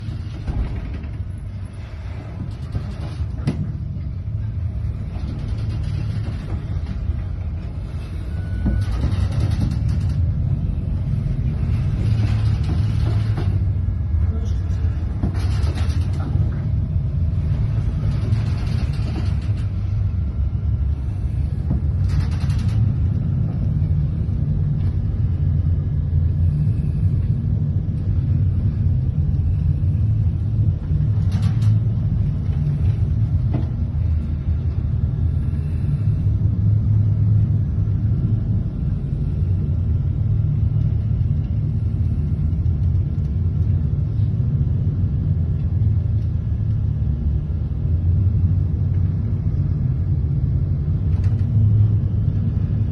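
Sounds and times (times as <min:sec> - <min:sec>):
ship engine low rumble: 0:00.0 - 0:52.9.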